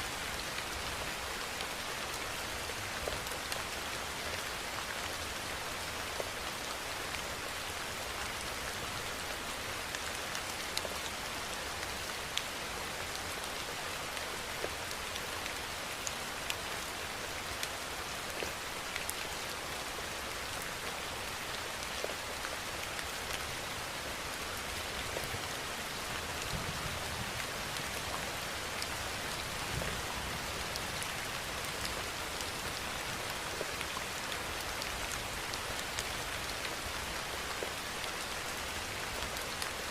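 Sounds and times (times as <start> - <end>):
steady rain hiss: 0.0 - 39.9
raindrops pattering on a surface: 0.1 - 39.9.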